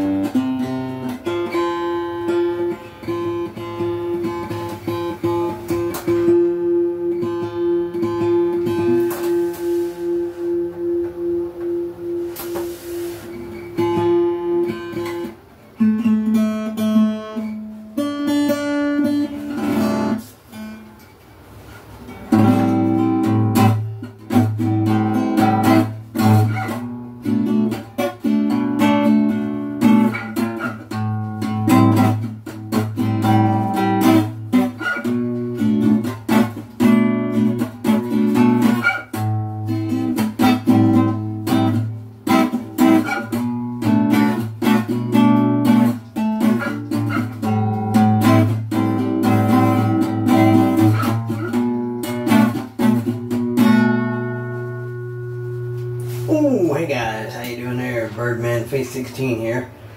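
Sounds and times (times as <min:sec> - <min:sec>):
acoustic guitar chords strummed: 0:00.0 - 0:59.9
acoustic guitar notes plucked: 0:00.0 - 0:59.9.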